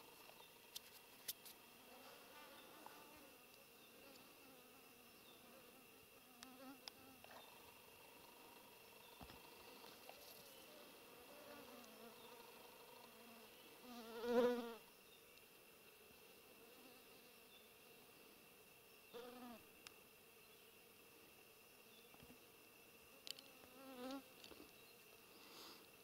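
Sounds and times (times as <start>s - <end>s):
flying insect buzzing: 0.0s - 26.0s.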